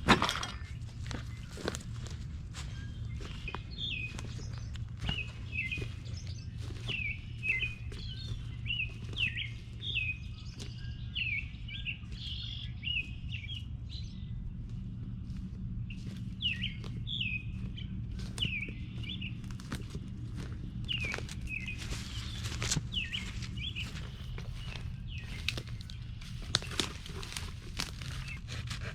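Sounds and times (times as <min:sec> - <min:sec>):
birds chirping: 0:00.0 - 0:28.9
low steady rumble: 0:00.0 - 0:28.9.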